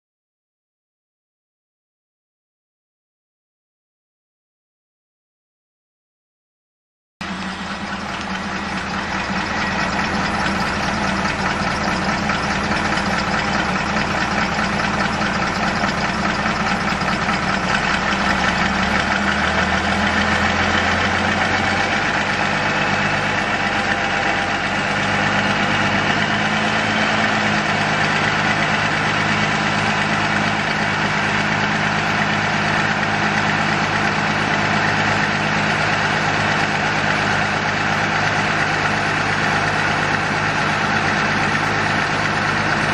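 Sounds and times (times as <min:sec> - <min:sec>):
diesel truck engine idling: 0:07.2 - 0:42.9.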